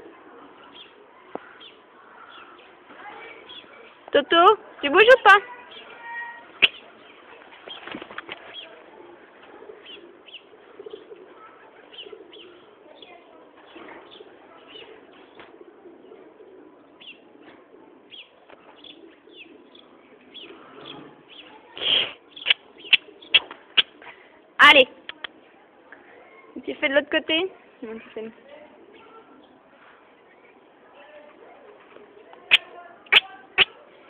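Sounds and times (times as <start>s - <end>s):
small birds chirping: 0.0s - 26.7s, 32.0s - 34.0s.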